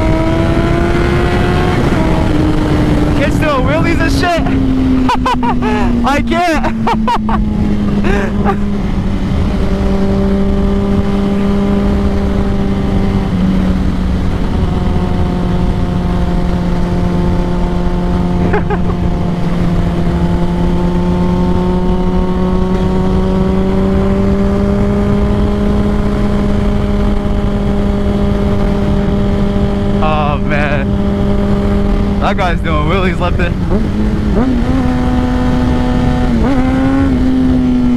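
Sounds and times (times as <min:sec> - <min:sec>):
motorcycle engine cruising: 0:00.0 - 0:37.9
wind rushing: 0:00.0 - 0:37.9.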